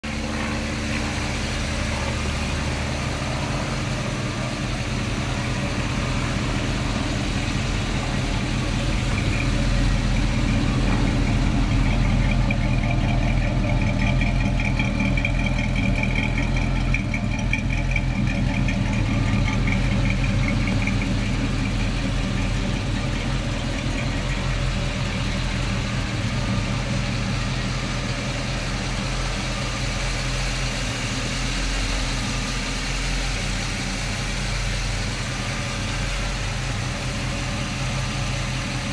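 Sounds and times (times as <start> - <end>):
pickup engine idling: 0.0 - 38.9.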